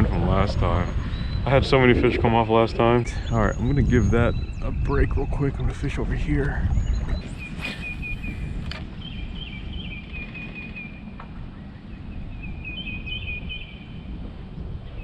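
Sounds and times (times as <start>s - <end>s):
songbird singing: 0.0s - 14.2s
steady low rumble: 0.0s - 15.0s.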